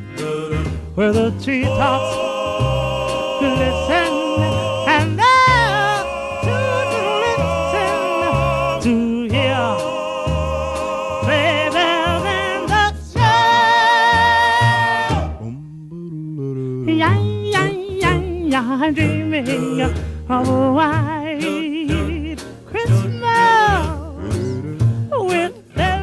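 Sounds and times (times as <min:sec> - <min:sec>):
group singing in harmony: 0:00.0 - 0:15.5, 0:19.0 - 0:24.7.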